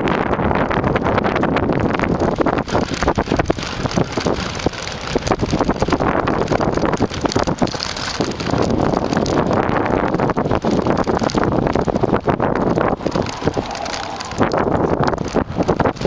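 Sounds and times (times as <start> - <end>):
bicycle tyres on dirt track: 0.0 - 16.0
bike rattling over bumps: 0.0 - 16.0
wind buffeting microphone: 0.0 - 16.0.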